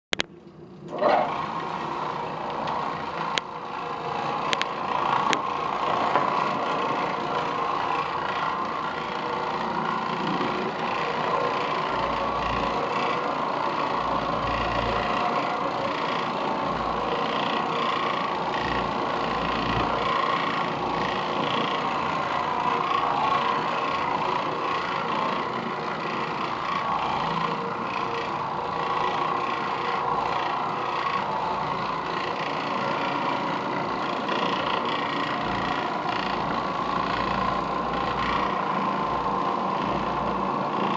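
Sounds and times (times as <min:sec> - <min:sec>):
floor machine motor hum: 0:00.1 - 0:40.9.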